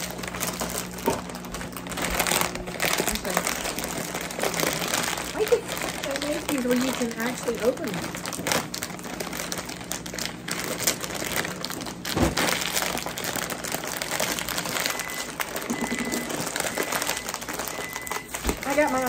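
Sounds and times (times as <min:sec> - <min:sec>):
chip bags crinkling: 0:00.0 - 0:19.0.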